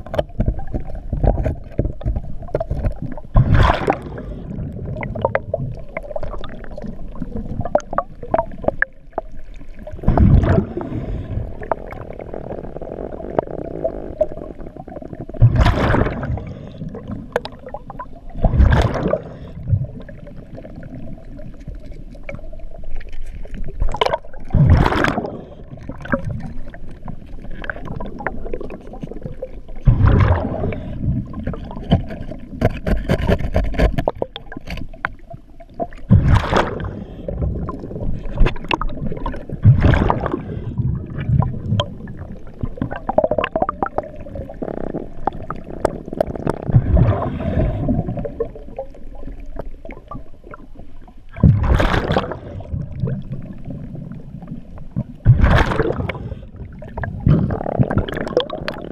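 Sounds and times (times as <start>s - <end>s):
bubbles gurgling underwater: 0.0s - 58.9s.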